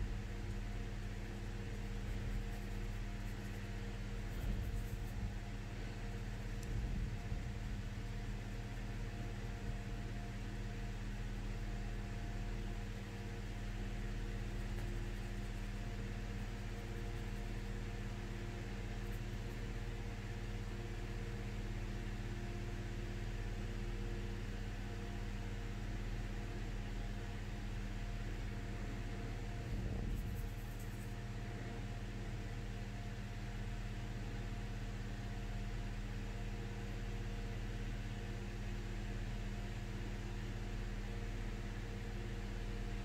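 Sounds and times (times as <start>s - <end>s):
steady hum with hiss: 0.0s - 43.0s.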